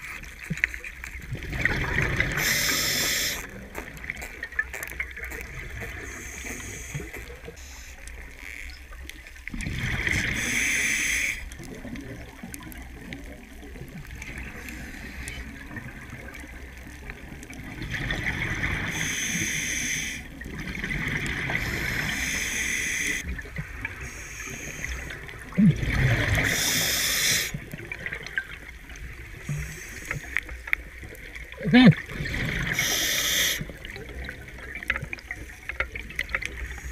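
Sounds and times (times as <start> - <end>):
regulator bubbles underwater: 0.0 - 36.9.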